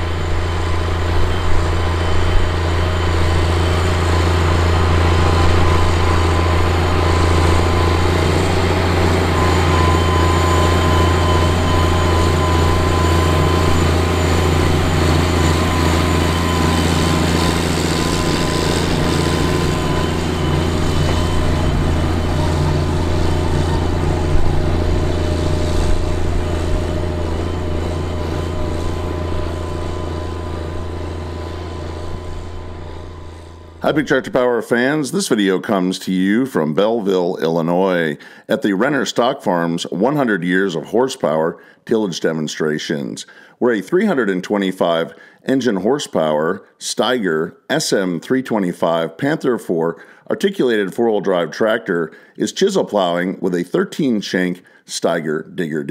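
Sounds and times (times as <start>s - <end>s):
tractor diesel engine drone: 0.0s - 55.9s.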